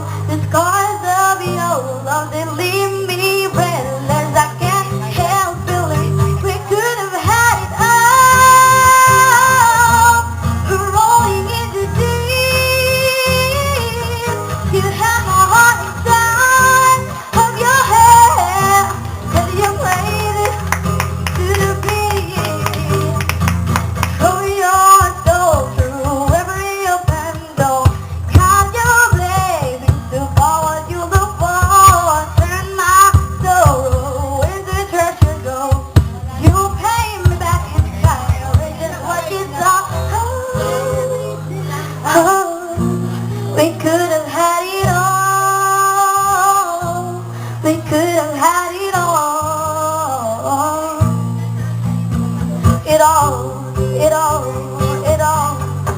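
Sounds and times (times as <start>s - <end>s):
person singing: 0.0s - 55.9s.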